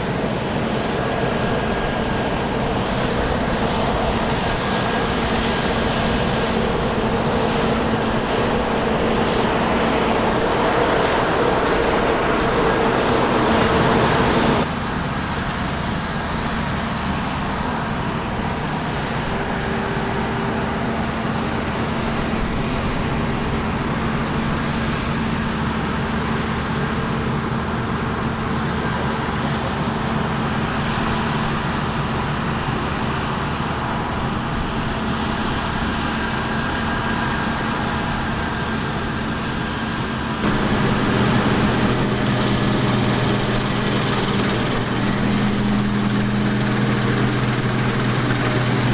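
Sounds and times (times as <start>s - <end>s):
heavy farm machinery engines: 0.0s - 31.9s, 39.0s - 48.9s.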